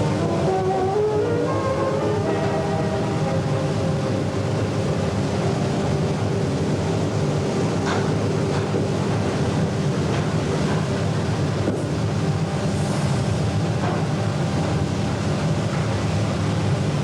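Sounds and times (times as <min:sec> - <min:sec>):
steady rumbling: 0:00.0 - 0:17.0.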